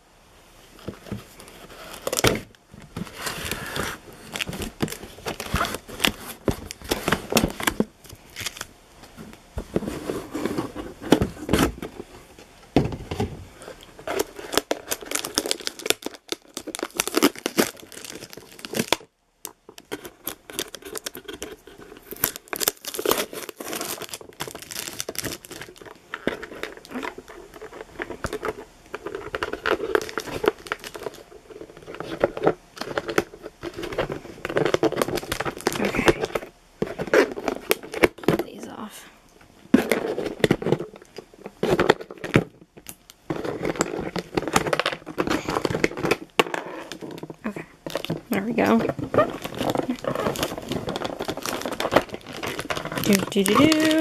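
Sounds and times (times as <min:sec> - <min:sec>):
cardboard tearing and rustling: 0:00.8 - 0:19.1, 0:19.7 - 0:38.9, 0:39.6 - 0:54.0
plastic bags crinkling: 0:00.8 - 0:39.0, 0:39.6 - 0:54.0.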